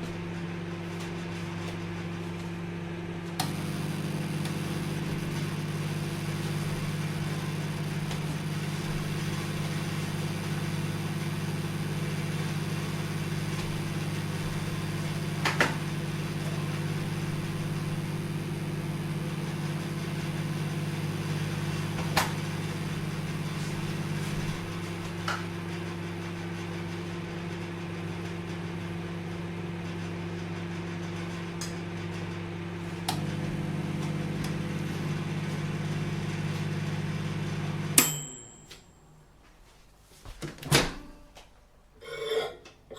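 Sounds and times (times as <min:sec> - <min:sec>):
microwave oven humming: 0:00.0 - 0:39.2.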